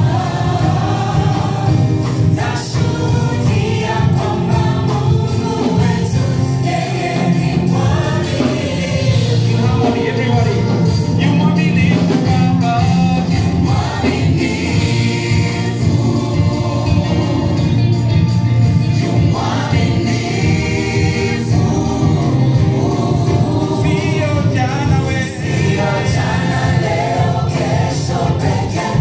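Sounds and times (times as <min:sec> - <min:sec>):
group of voices singing: 0:00.0 - 0:29.0
instrumental backing: 0:00.0 - 0:29.0.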